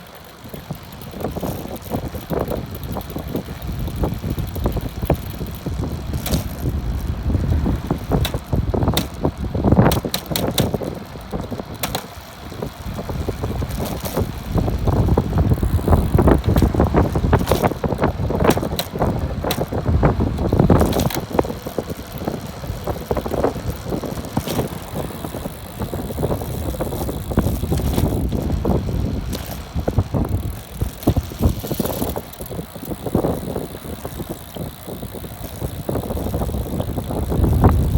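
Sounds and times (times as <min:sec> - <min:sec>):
bicycle drivetrain running: 0:00.0 - 0:37.9
derailleur clicks and knocks: 0:00.0 - 0:37.9.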